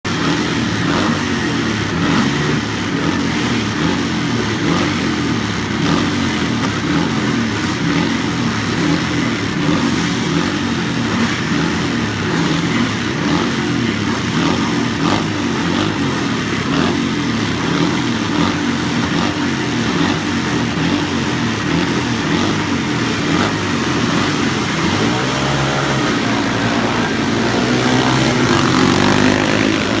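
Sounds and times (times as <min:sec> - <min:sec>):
motocross motorcycles racing: 0:00.1 - 0:30.0.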